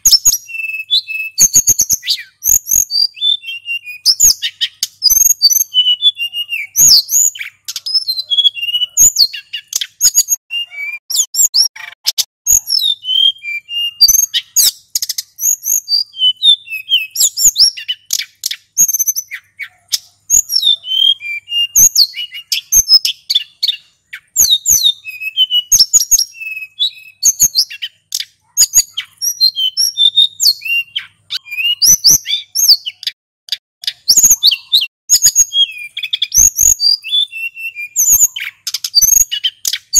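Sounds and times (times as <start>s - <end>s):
bird singing whistled trills: 0.0s - 33.2s, 33.8s - 39.9s.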